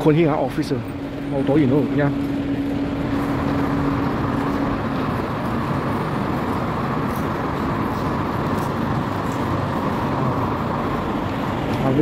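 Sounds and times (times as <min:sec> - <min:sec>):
busy rail station crowd noise: 0:00.0 - 0:12.0.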